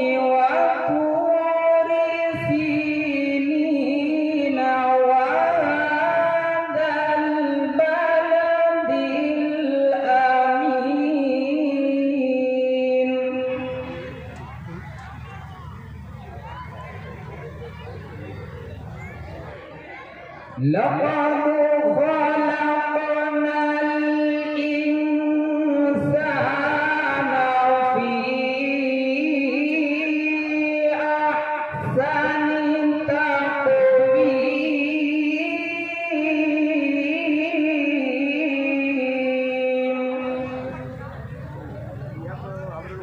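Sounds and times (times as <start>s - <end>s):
person reciting melodically: 0.0s - 20.0s, 20.6s - 43.0s.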